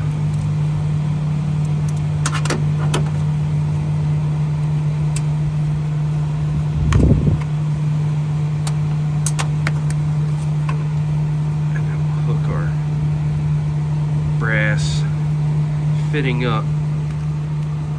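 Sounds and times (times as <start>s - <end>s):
low machine hum: 0.0s - 17.9s.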